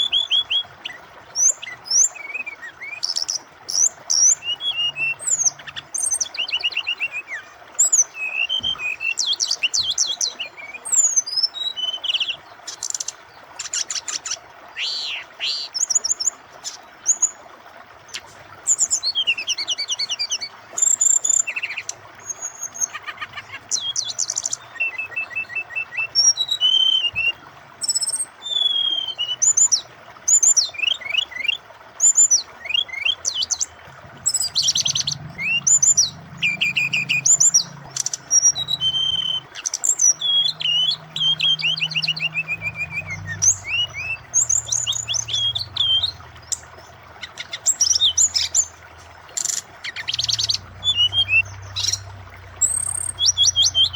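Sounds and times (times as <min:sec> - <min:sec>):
bird singing whistles and trills: 0:00.0 - 0:13.1, 0:13.7 - 0:17.4, 0:18.1 - 0:53.9
flowing water: 0:00.0 - 0:53.9.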